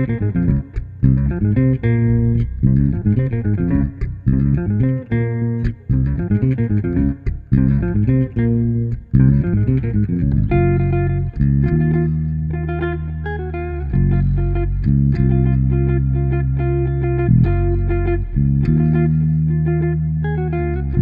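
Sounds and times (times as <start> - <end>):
electric bass line: 0.0 - 21.0
electric guitar arpeggios: 0.0 - 21.0.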